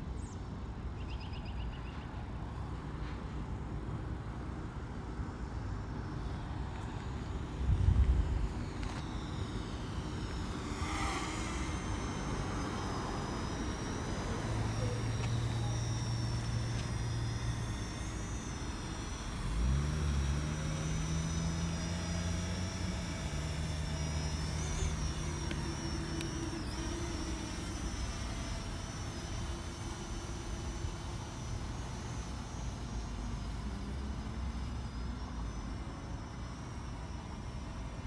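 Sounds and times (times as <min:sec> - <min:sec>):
drone propellers whining: 0:00.0 - 0:38.0
low hums: 0:03.5 - 0:38.0.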